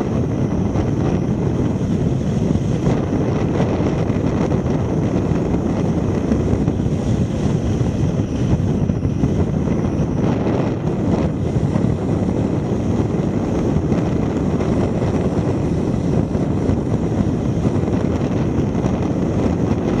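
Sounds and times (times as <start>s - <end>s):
road noise: 0.0s - 20.0s
wind rushing on microphone: 0.0s - 20.0s.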